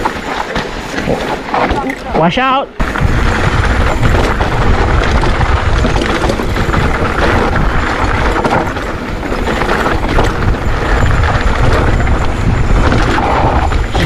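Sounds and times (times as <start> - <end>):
bike rattling over ground: 0.0 - 14.0
rumble of wind and tyres: 0.0 - 14.0.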